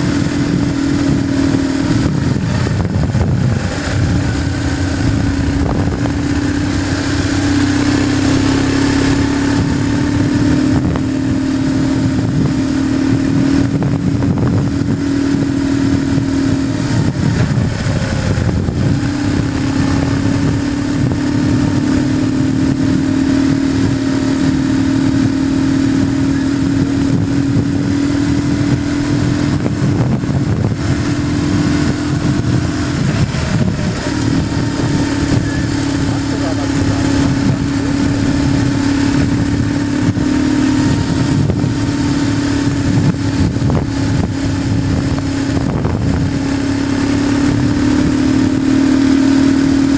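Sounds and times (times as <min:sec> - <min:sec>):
motorcycle engine running: 0:00.0 - 0:49.9
wind rush: 0:00.0 - 0:49.9.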